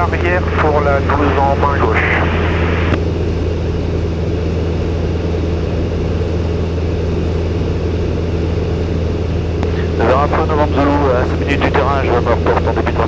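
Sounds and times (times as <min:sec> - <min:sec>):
light aircraft engine droning: 0:00.0 - 0:13.0.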